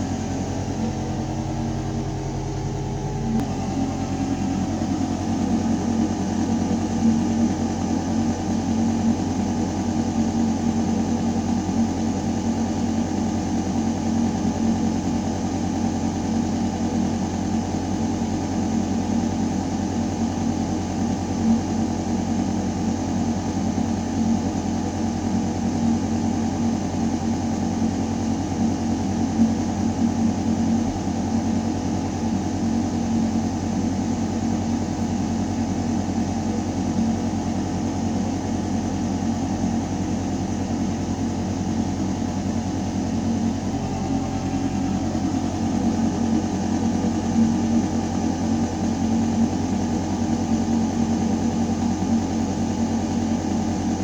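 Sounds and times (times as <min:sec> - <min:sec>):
ventilation system humming: 0:00.0 - 0:54.0.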